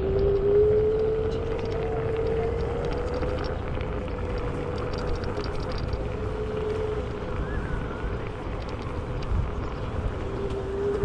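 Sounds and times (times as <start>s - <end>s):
wind and tyre rumble: 0.0s - 11.0s.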